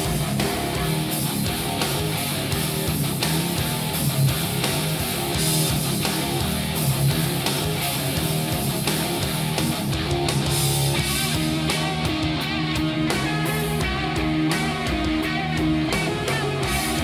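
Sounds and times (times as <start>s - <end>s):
bass guitar: 0.0s - 17.0s
electric guitar: 0.0s - 17.0s
instrumental rock music: 0.0s - 17.0s.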